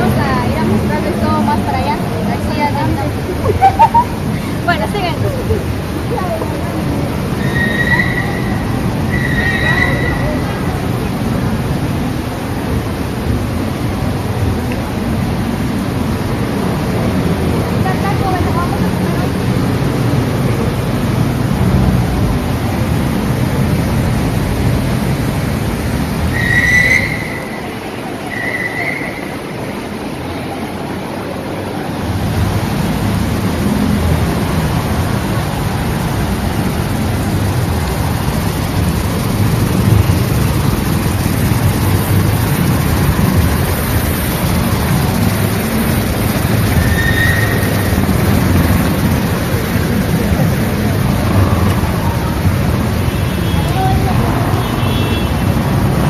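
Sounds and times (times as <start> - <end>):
fountain water splashing: 0.0 - 56.0
street traffic: 0.0 - 56.0.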